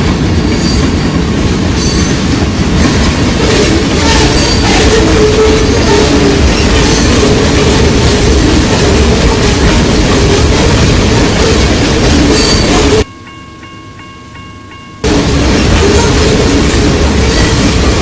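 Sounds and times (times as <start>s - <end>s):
train wheels rushing on rail: 0.0s - 13.1s, 15.0s - 18.0s.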